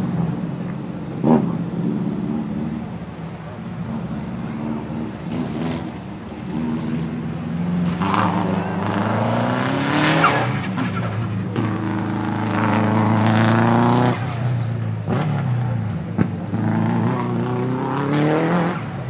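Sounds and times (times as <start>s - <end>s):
rally car engine accelerating: 0.0s - 19.0s.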